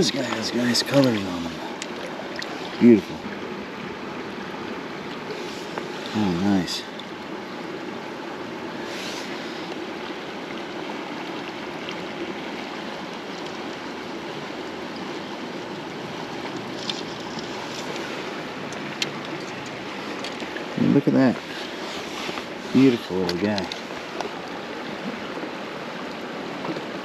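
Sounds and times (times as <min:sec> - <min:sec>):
creek water running over rocks: 0:00.0 - 0:27.0.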